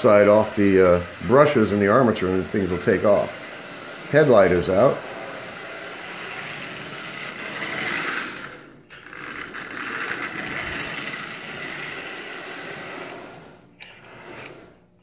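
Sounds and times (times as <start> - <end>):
toy train motor whirring: 0.0 - 15.0.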